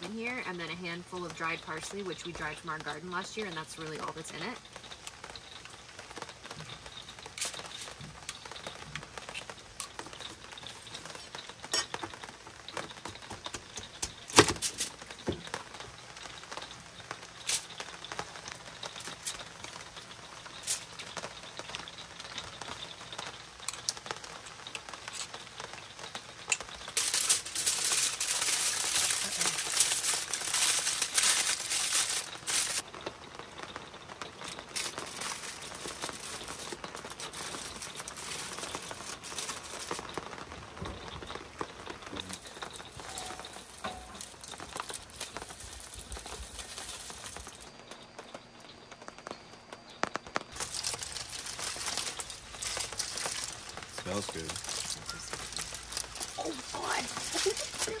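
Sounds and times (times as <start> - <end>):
aluminium foil crinkling: 0.0 - 49.3, 50.0 - 58.0
foil taps and clicks: 4.6 - 58.0.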